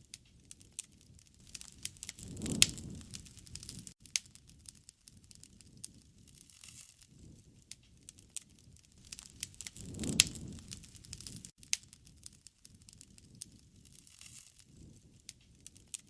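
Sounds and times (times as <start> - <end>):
bonfire crackling and popping: 0.0 - 16.0
low rumble of flame: 0.0 - 16.0.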